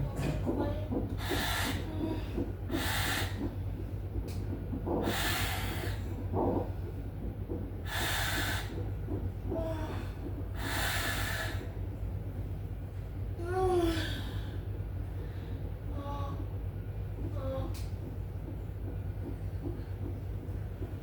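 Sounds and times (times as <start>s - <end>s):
woman breathing heavily: 0.9s - 12.4s, 13.3s - 20.6s.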